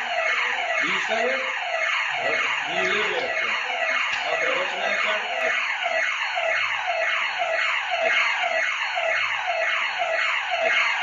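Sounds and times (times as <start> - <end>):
intrusion alarm siren sweeping: 0.0 - 11.0.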